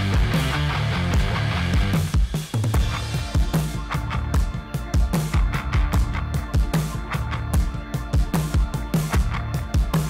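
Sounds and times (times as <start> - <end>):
background music: 0.0 - 10.0
deep kick drum beat: 0.0 - 10.0.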